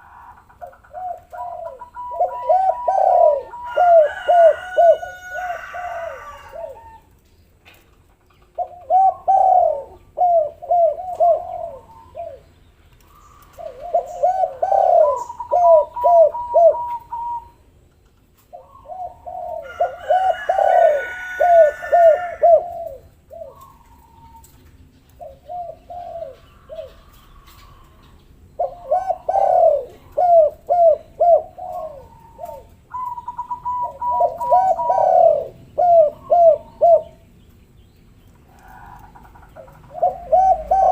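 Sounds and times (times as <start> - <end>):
doves cooing: 0.0 - 37.3, 38.3 - 40.9.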